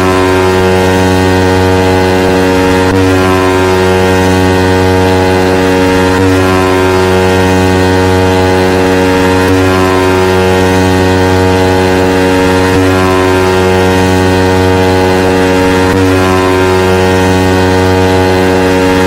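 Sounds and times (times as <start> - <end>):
deep bass drone: 0.0 - 19.0
horn-like synth chord: 0.0 - 19.0.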